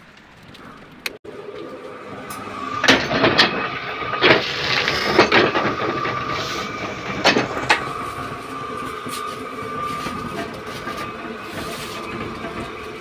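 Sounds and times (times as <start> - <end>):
flywheel whine: 0.0 - 13.0
blade mechanism knocks and clanks: 2.2 - 13.0.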